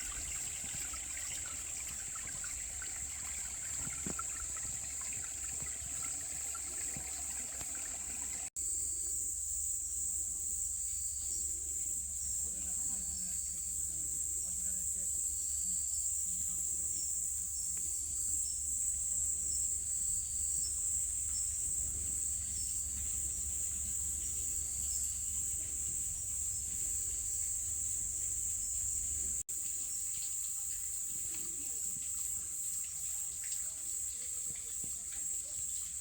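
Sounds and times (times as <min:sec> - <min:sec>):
short repeated insect chirps: 0:00.0 - 0:07.2, 0:13.0 - 0:36.0
insects chirring: 0:00.0 - 0:36.0.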